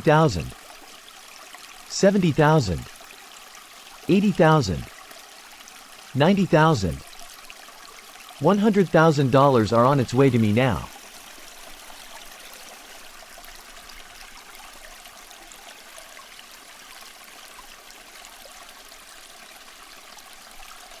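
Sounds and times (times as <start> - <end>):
water stream trickling: 0.0 - 4.2, 4.8 - 21.0.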